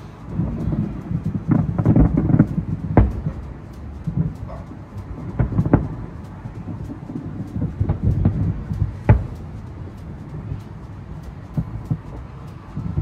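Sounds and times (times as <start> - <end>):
steady rumble: 0.0 - 13.0
distant fireworks booming: 0.3 - 12.2.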